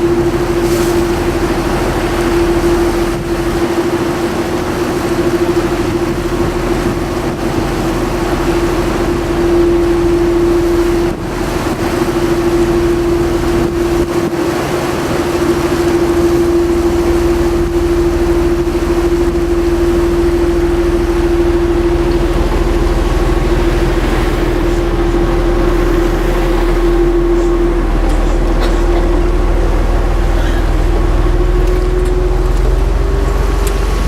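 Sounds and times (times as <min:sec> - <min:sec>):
boat engine humming: 0:00.0 - 0:34.0
water rushing: 0:00.0 - 0:34.0
wind: 0:00.0 - 0:34.0.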